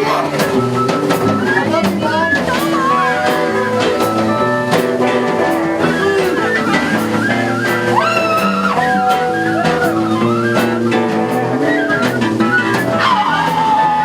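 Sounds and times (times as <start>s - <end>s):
guitar: 0.0s - 14.0s.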